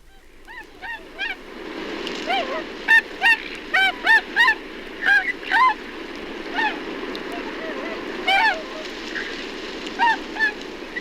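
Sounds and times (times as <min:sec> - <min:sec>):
swans honking in flight: 0:00.0 - 0:11.0.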